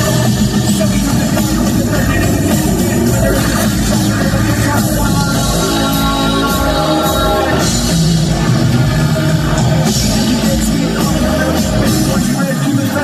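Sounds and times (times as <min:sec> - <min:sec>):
live industrial rock band: 0:00.0 - 0:13.0.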